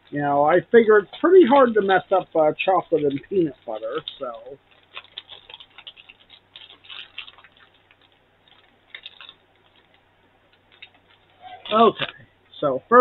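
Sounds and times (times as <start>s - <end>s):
candy wrapper crinkling: 0.0s - 12.3s.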